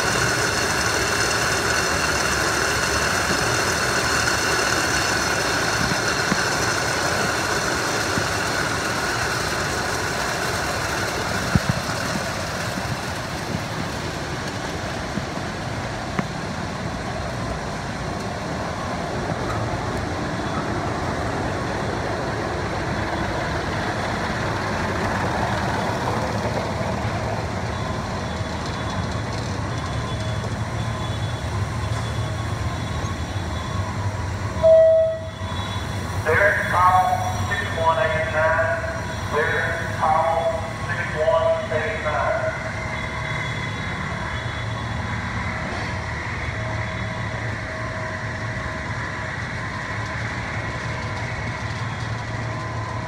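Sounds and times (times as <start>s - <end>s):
conveyor mechanical drone: 0.0s - 53.0s.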